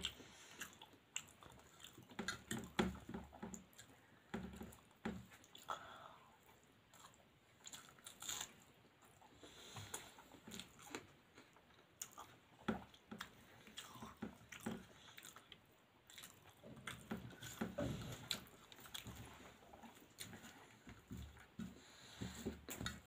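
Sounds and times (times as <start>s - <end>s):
chewing with mouth clicks: 0.0s - 5.8s, 6.4s - 21.6s.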